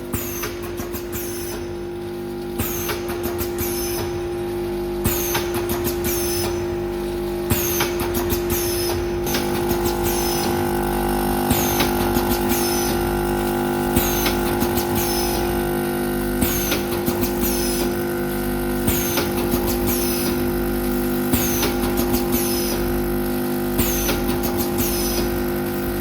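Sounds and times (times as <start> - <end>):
machine clicks and hisses: 0.0 - 26.0
machine motor hum: 0.0 - 26.0.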